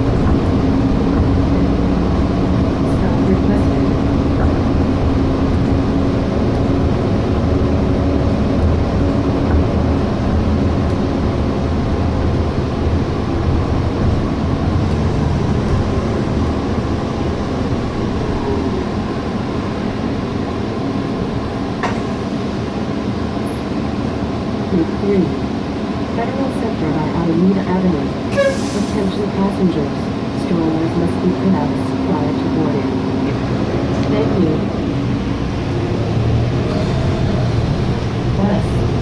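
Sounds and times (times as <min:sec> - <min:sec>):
bus engine and road noise: 0:00.0 - 0:39.0.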